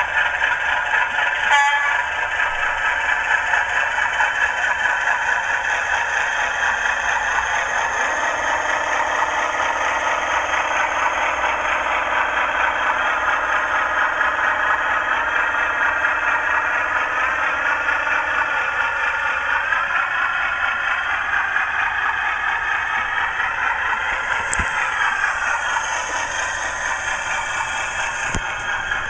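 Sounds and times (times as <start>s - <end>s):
model diesel engine sound: 0.0s - 29.0s
wheels rumbling on track: 0.0s - 29.0s.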